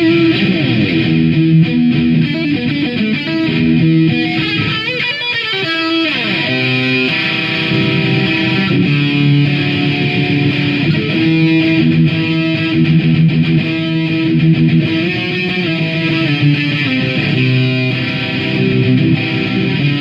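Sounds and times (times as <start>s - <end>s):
electric guitar riff: 0.0s - 20.0s.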